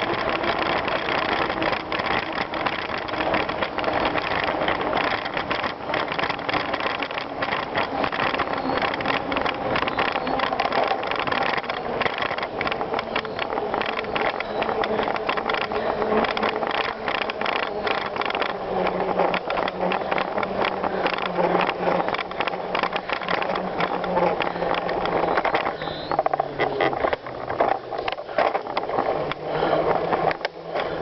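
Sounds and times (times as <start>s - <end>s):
bicycle tyres on gravel: 0.0s - 31.0s
bike rattling: 0.0s - 31.0s.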